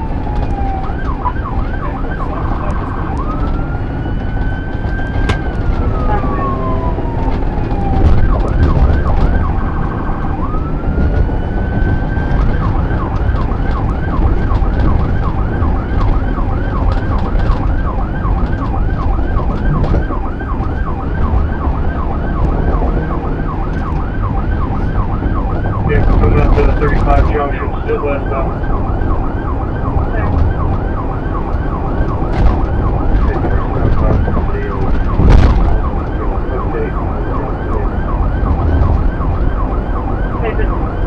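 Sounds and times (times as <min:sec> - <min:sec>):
police siren wailing and yelping: 0:00.0 - 0:41.0
road and engine noise: 0:00.0 - 0:41.0.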